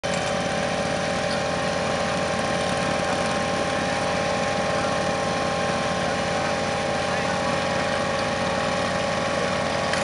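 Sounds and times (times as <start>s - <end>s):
pump engine idling: 0.0s - 10.0s.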